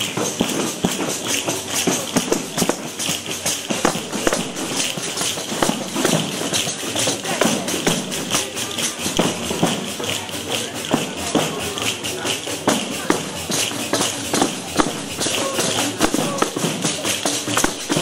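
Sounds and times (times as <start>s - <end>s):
frame drum jingles: 0.0s - 18.0s.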